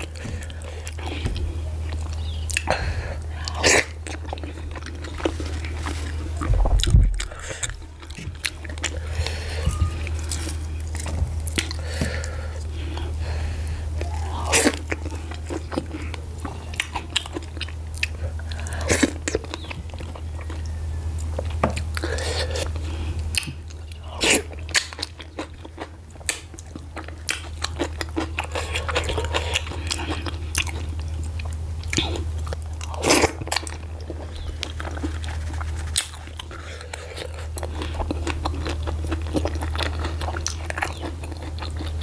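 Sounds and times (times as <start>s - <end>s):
chewing and wet lip smacking: 0.0s - 42.0s
steady low hum: 0.0s - 42.0s.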